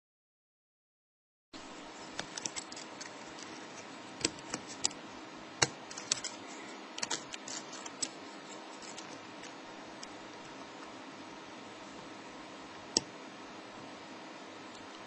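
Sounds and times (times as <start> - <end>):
faint steady hum: 1.6 - 15.0.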